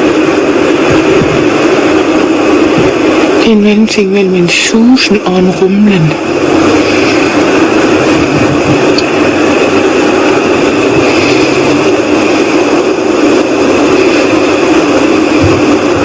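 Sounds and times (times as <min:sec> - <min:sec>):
loud drone in the sky: 0:00.0 - 0:16.0.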